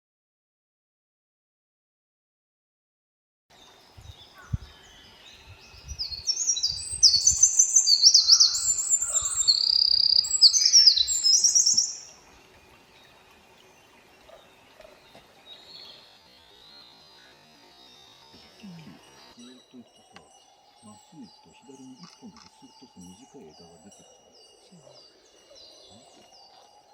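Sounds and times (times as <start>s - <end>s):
wren singing high trills: 3.6s - 26.9s.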